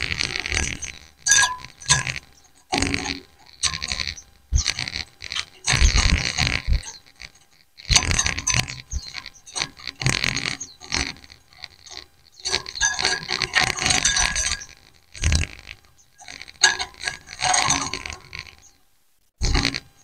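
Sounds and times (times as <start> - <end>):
birds chirping high and rapid: 0.5 - 18.8.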